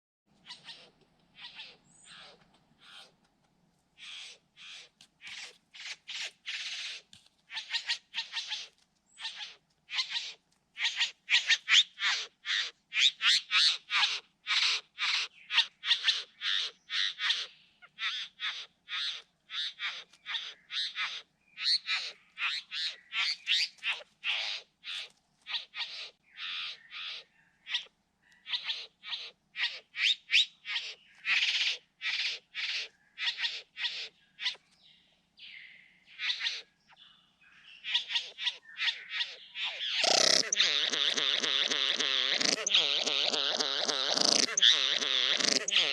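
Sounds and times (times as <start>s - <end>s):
birds harsh rasping calls: 0.4s - 3.1s, 4.0s - 34.7s, 35.4s - 37.0s, 37.7s - 45.9s.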